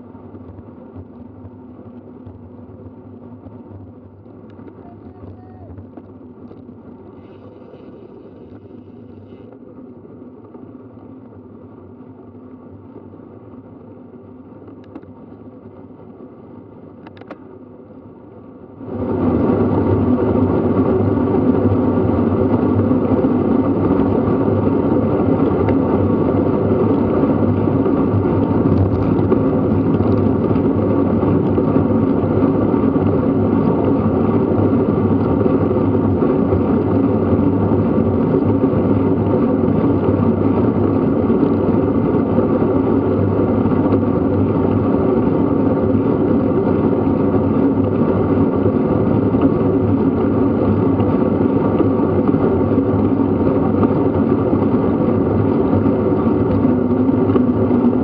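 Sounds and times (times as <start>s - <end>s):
wind and road rush: 0.0s - 58.0s.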